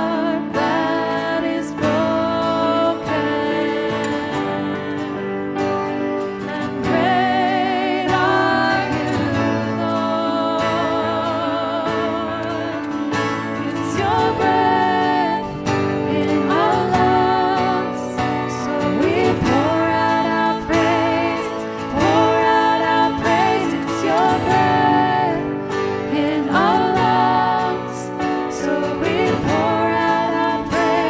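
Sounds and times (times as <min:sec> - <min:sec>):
person singing with vibrato: 0:00.0 - 0:31.0.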